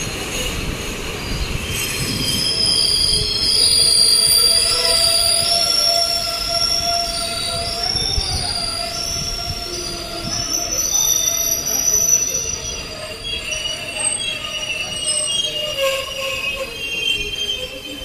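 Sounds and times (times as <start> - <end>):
brakes squealing: 0.0 - 18.0
train rumbling past: 0.0 - 18.0.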